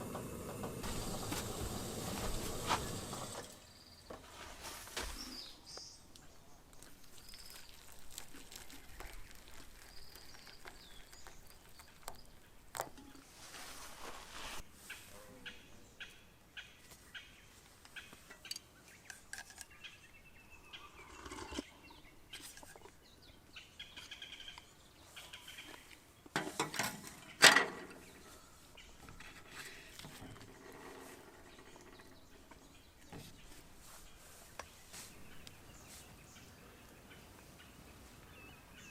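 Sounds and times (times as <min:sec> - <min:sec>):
small birds chirping: 0:00.8 - 0:13.2, 0:14.8 - 0:26.4, 0:27.2 - 0:38.9.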